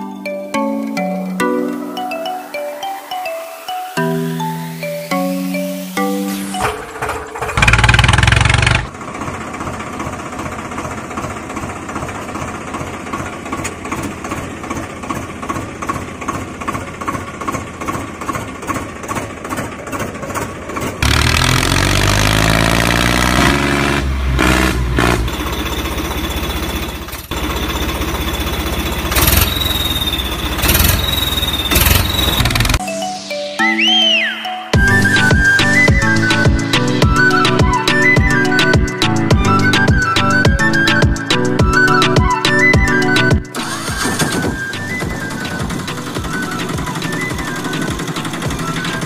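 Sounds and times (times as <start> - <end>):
tractor engine starting and idling: 5.7 - 32.8, 34.8 - 49.0.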